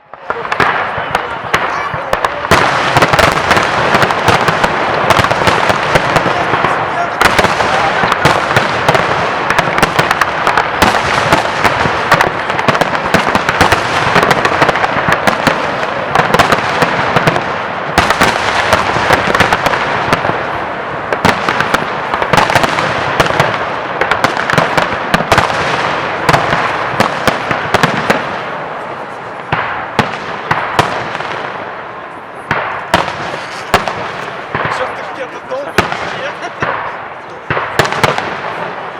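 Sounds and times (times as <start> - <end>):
fireworks cracks and pops: 0.0 - 31.9, 32.5 - 38.9
fireworks crackle: 0.0 - 38.9.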